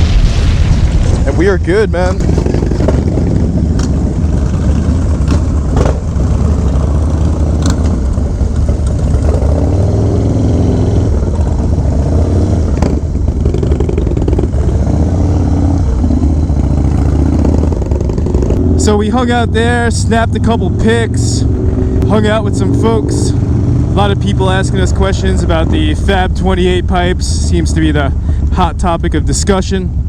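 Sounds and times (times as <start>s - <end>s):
motorcycle engine droning: 1.0s - 30.0s.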